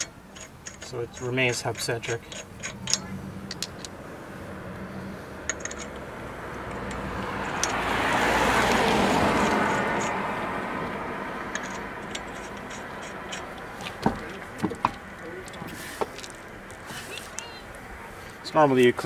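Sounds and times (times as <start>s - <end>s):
lug nuts clicking: 0.0s - 4.0s, 4.7s - 17.5s
passing vehicle: 0.0s - 19.0s.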